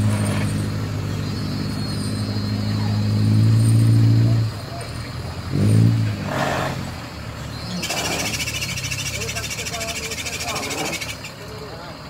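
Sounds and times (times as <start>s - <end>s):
engine pulling hard under load: 0.0s - 12.0s.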